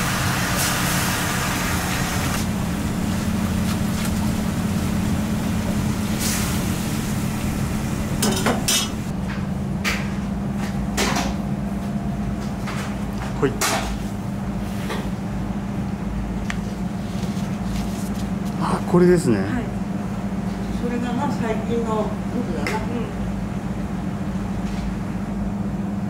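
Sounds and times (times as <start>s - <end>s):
low kitchen hum: 0.0s - 26.0s.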